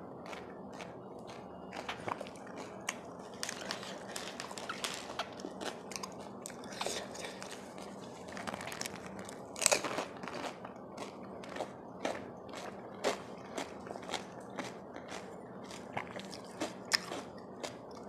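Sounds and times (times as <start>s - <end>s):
chewing: 0.2s - 18.0s
crisp shells crunching: 0.3s - 17.8s.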